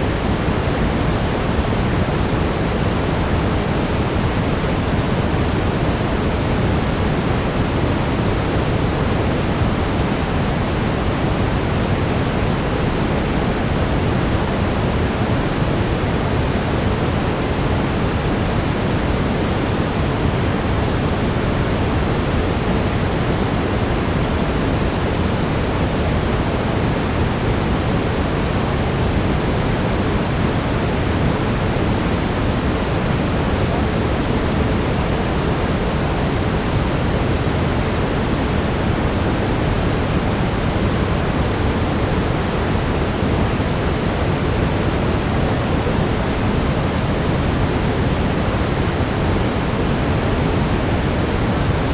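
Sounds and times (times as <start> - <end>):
brown noise: 0.0 - 51.9.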